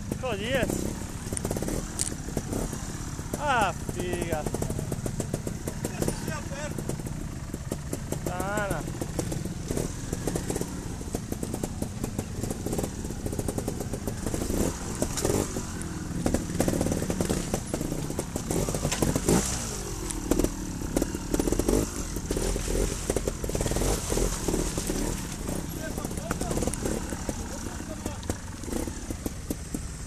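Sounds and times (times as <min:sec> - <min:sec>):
motorcycle engine revving: 0:00.0 - 0:30.0
stones clattering under tyres: 0:00.0 - 0:30.0.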